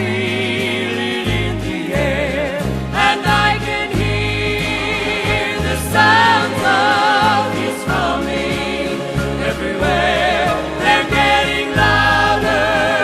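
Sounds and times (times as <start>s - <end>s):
band accompaniment with bass: 0.0s - 13.0s
voices singing with vibrato: 0.0s - 13.0s.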